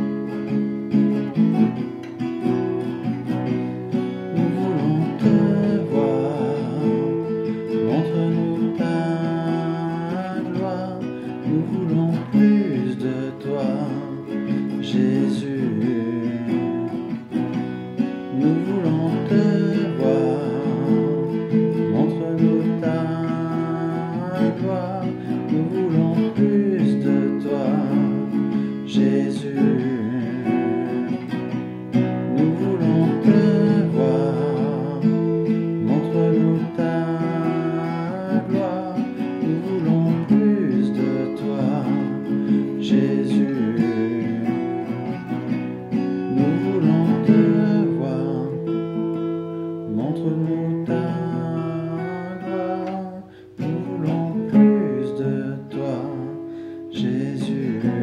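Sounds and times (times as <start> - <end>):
strummed acoustic guitar worship music: 0.0 - 58.0.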